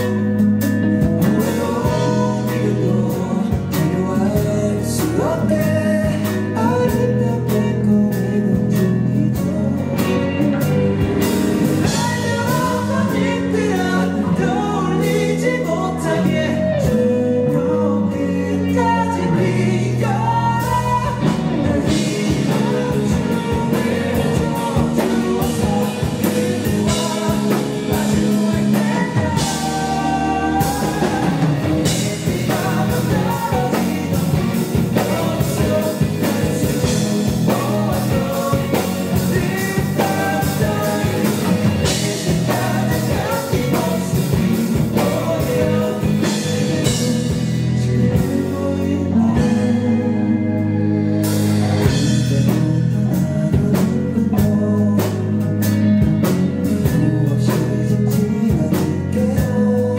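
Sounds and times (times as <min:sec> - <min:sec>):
live rock band: 0:00.0 - 0:59.9
person singing lead vocal: 0:00.0 - 0:59.9.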